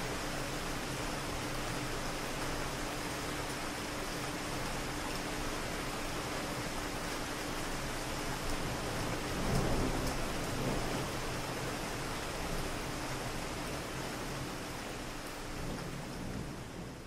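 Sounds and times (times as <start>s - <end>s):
rain pattering on hard surfaces: 0.0s - 17.0s.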